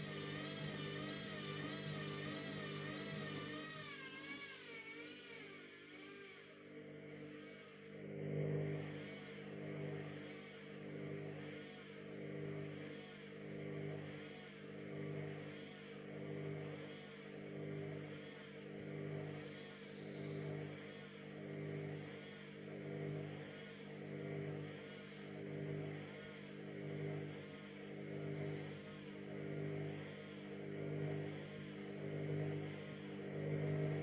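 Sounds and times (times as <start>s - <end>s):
washing machine motor whirring: 0.0s - 34.0s.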